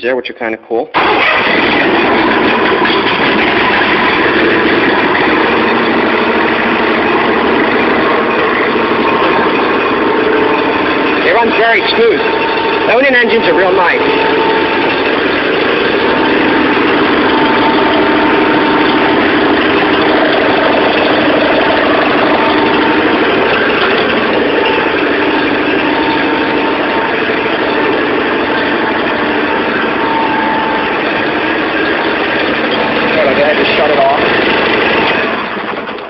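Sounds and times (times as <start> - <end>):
garden tractor engine running: 1.0 - 36.0.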